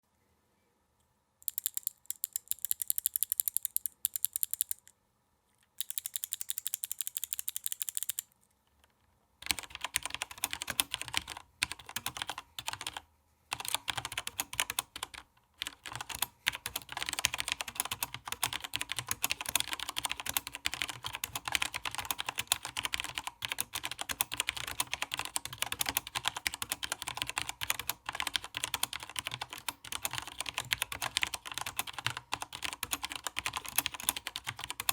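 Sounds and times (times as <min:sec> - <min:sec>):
mechanical keyboard typing: 0:01.4 - 0:04.9, 0:05.8 - 0:08.3, 0:09.4 - 0:34.9.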